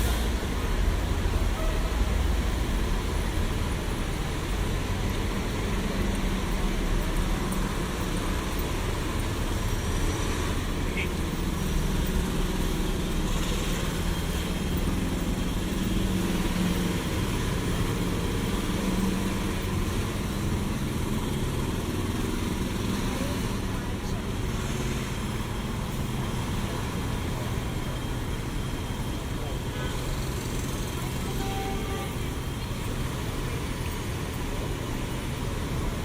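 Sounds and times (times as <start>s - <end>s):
cars passing: 0.0s - 36.0s
engine rumble: 0.0s - 36.0s.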